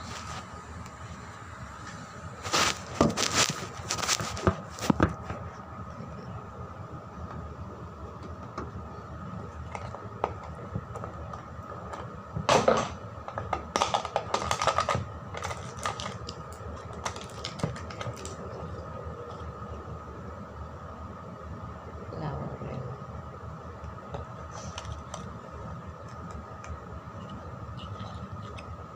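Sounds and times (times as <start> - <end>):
faint steady hum: 0.0 - 28.9.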